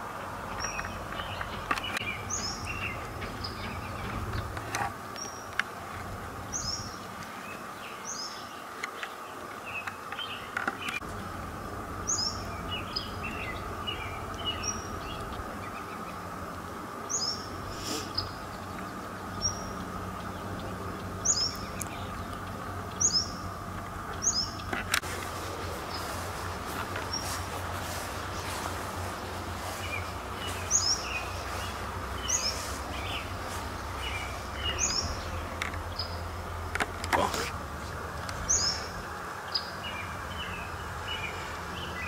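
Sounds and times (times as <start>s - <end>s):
birds chirping softly: 0.0s - 42.0s
steady background hum: 0.0s - 42.0s.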